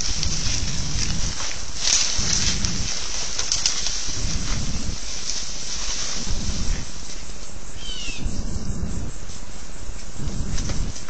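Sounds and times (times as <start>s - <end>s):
outdoor hiss and rumble: 0.0s - 11.0s.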